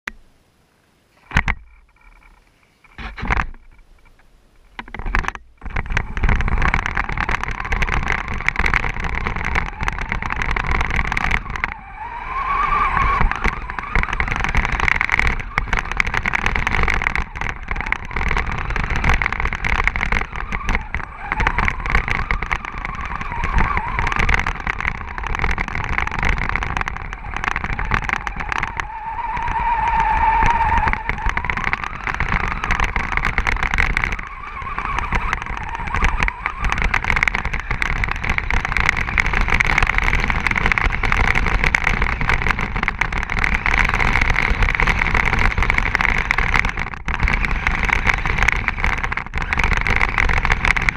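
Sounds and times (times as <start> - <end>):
rough rumble of tyres: 0.1 - 50.9
toy car motor whining: 5.6 - 50.9.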